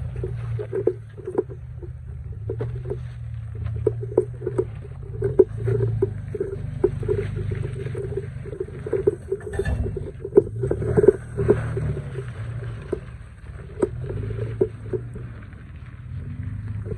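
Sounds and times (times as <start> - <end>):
truck engine running low: 0.0 - 16.9
tyres crunching over rocks: 0.0 - 16.9.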